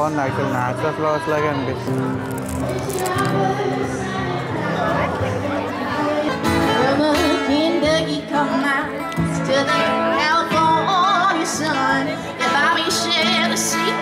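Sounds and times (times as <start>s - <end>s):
guitar: 0.0s - 14.0s
person singing country song: 0.0s - 14.0s.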